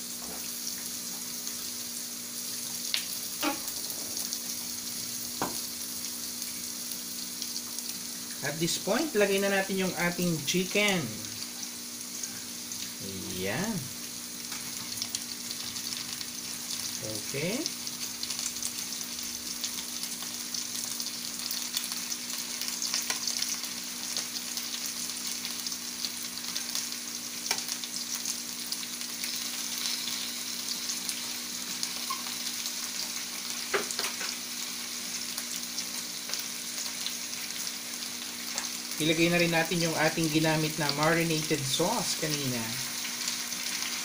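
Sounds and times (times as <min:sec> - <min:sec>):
food sizzling in a wok: 0:00.0 - 0:44.0.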